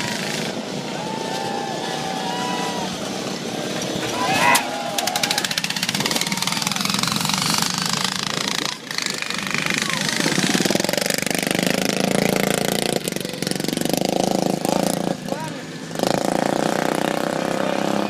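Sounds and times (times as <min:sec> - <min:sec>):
small engines pulsing exhaust chatter: 0:00.0 - 0:18.0.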